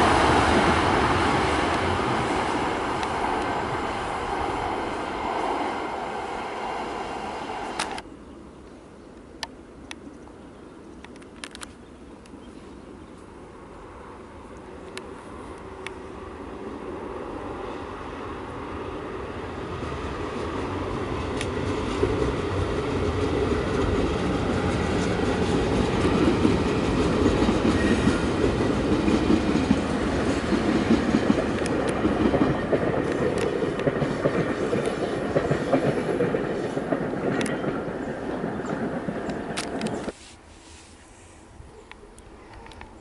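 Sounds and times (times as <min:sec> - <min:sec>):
train rumbling over bridge: 0:00.0 - 0:08.6, 0:10.7 - 0:40.6.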